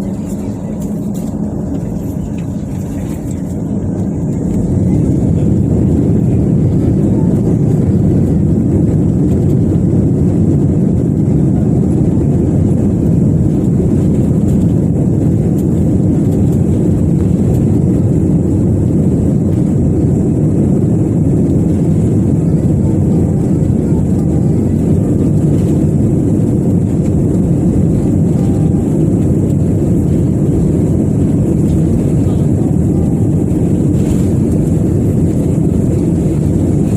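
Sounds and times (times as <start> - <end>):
jet engines rushing in cabin: 0.0 - 36.9.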